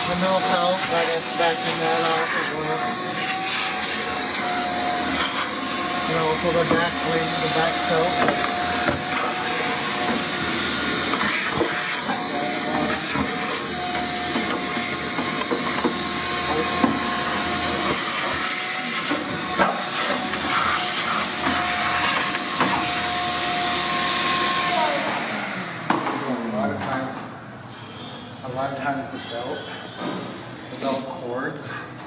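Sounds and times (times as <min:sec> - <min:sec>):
laundromat dryers humming: 0:00.0 - 0:32.0.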